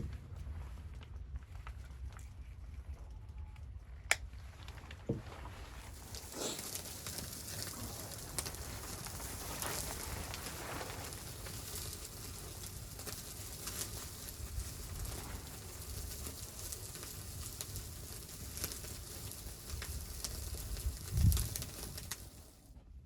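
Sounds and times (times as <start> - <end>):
irregular crackling and patter: 0.0 - 23.0.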